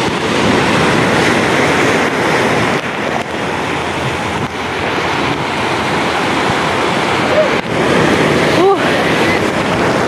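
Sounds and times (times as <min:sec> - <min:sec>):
surf washing over rocks: 0:00.0 - 0:10.0
wind buffeting microphone: 0:00.0 - 0:10.0.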